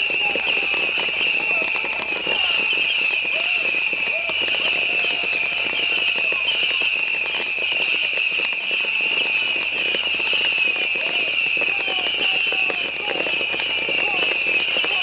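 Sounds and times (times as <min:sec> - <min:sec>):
crackle of firecrackers: 0:00.0 - 0:15.0
shrill whistling of rockets: 0:00.0 - 0:15.0.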